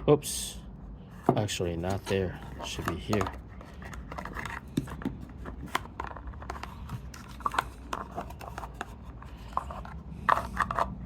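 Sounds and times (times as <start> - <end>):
low steady hum: 0.0 - 11.0
hands handling small part: 1.2 - 11.0.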